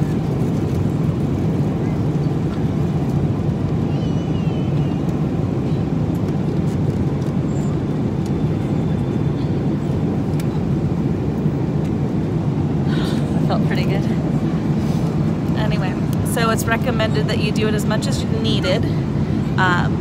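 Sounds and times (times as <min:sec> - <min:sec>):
airliner cabin drone: 0:00.0 - 0:20.0.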